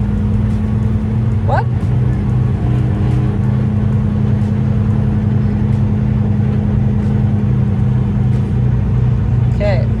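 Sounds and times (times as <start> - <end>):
diesel truck engine humming: 0.0 - 10.0.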